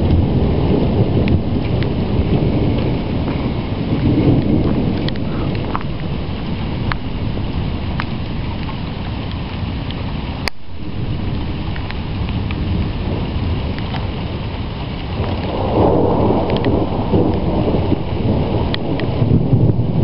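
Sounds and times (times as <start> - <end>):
low rumbling thunder: 0.0 - 20.0.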